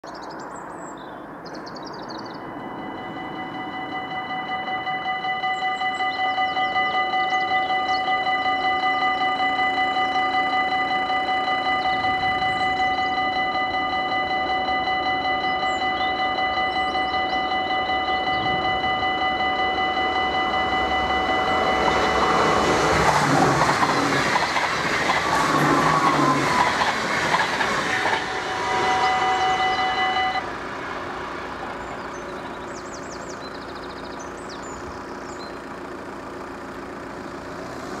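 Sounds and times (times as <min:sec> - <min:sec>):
electric train passing: 0:00.2 - 0:38.0
level crossing bells ringing: 0:02.2 - 0:37.4.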